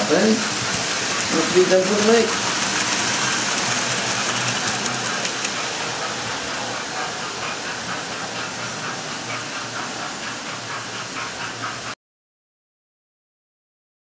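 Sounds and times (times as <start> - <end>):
model train hiss: 0.0 - 12.0.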